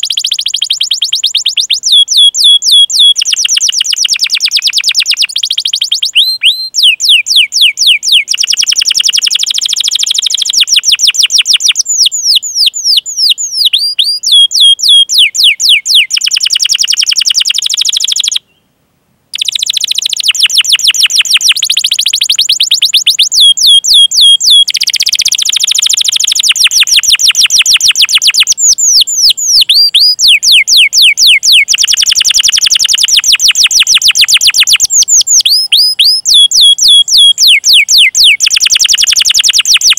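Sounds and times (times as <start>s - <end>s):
canary singing trills: 0.0s - 18.6s, 19.3s - 39.9s.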